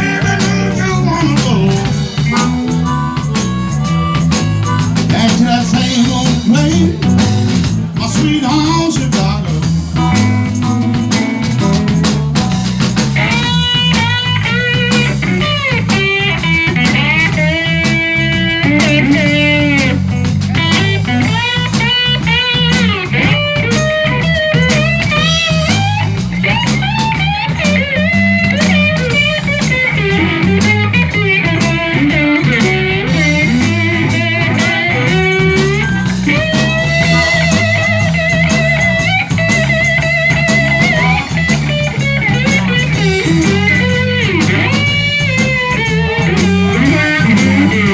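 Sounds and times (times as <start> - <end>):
electric guitar solo: 0.0 - 9.0, 10.0 - 47.9
live blues band: 0.0 - 47.9.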